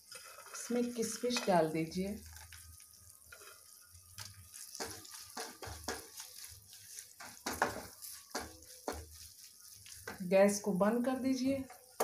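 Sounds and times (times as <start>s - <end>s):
wooden spatula scraping metal pan: 0.0s - 2.5s, 3.2s - 10.6s
light frying sizzle: 0.0s - 12.0s.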